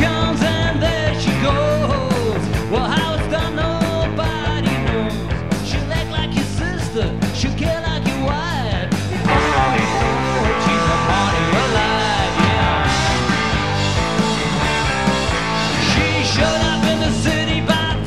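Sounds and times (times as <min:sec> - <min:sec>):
person singing: 0:00.0 - 0:13.1, 0:15.7 - 0:18.0
drums beating: 0:00.0 - 0:18.0
rock band playing live: 0:00.0 - 0:18.0.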